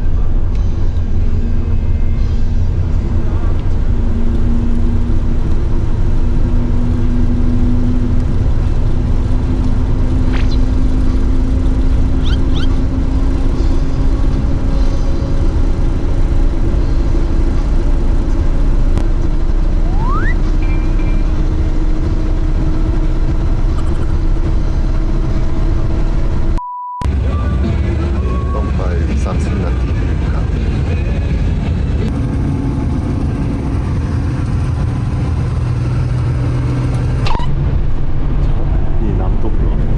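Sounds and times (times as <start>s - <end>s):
minibus engine drone: 0.0s - 39.9s
road rumble: 0.0s - 39.9s.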